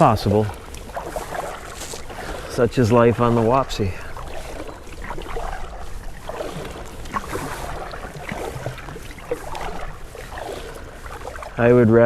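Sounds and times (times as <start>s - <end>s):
paddle pulling through water: 0.0s - 12.0s
water splashes and drips: 0.0s - 12.0s.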